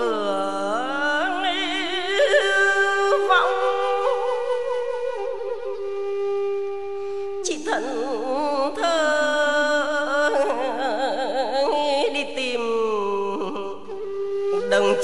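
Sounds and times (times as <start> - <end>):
traditional music with vibrato: 0.0 - 15.0.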